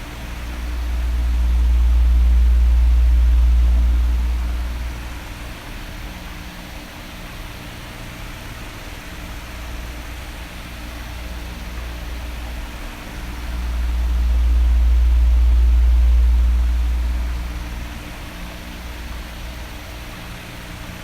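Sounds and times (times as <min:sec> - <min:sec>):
electric fan hiss and hum: 0:00.0 - 0:21.0.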